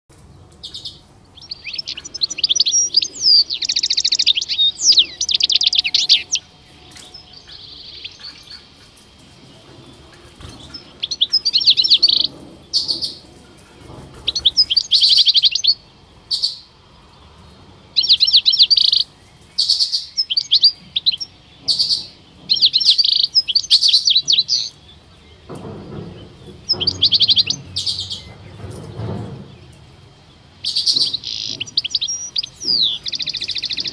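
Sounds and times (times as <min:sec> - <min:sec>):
goldfinches twittering: 0:00.7 - 0:13.2, 0:17.9 - 0:29.0, 0:30.3 - 0:33.9.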